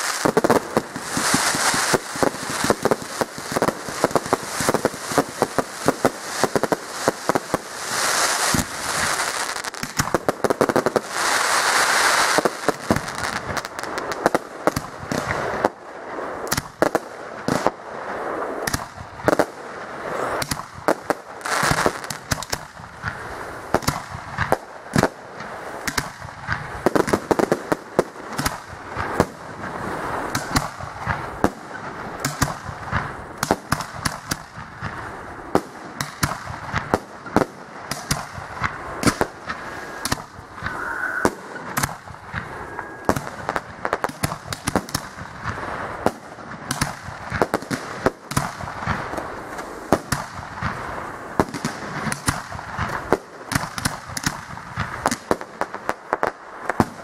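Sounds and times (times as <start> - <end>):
fireworks bangs: 0.0 - 57.0
fireworks crackle: 0.0 - 57.0.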